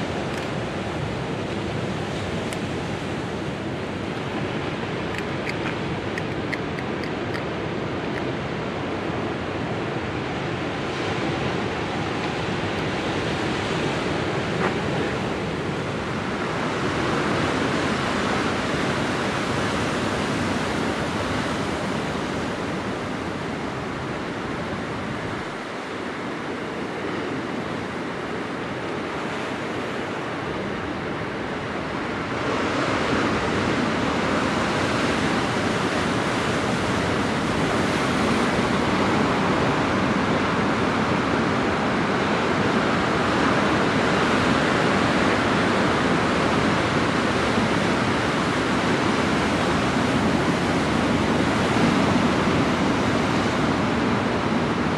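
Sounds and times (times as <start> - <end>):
surf washing over rocks: 0.0 - 54.9.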